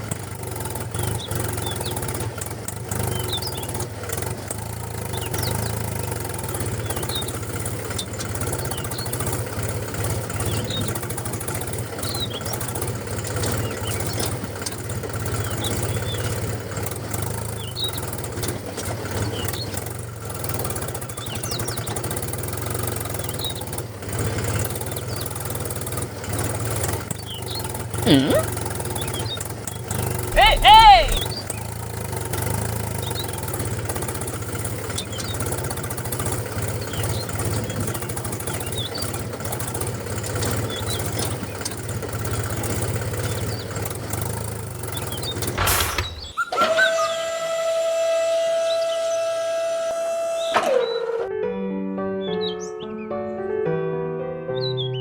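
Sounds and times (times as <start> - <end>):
small tractor motor humming: 0.0 - 51.4.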